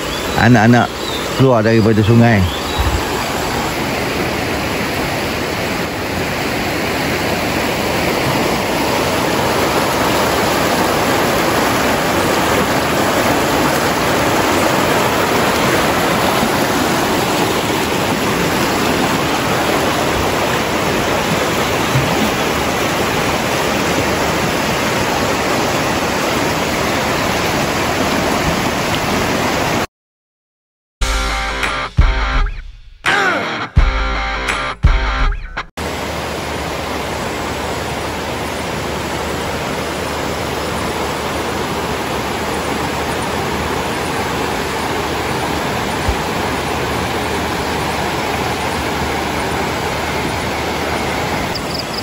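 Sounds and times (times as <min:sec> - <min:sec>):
river rushing over stones: 0:00.0 - 0:29.9, 0:35.8 - 0:51.7.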